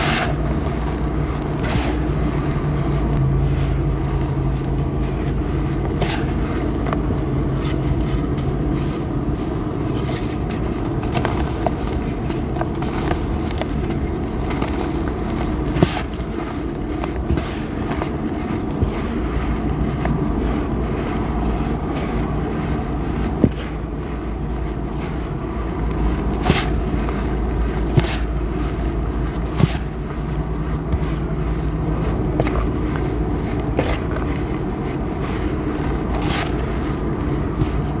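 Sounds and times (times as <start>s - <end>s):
powdered cement crumbled by hands: 0.0s - 38.0s.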